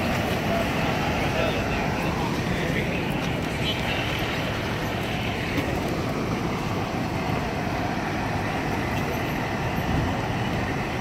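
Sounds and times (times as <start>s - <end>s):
street traffic and engines: 0.0s - 11.0s.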